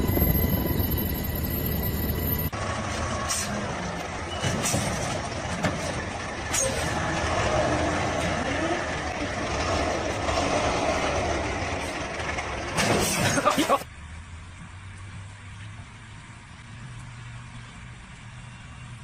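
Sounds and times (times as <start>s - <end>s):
heavy road vehicles: 0.0s - 19.0s.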